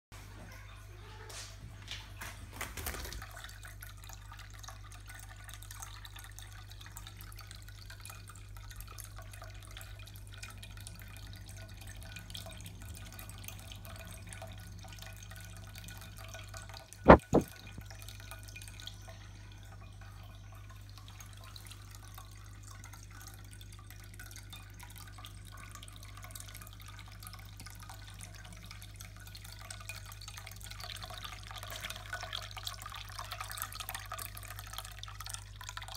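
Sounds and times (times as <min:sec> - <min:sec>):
water trickling into bowl: 0:03.0 - 0:35.9.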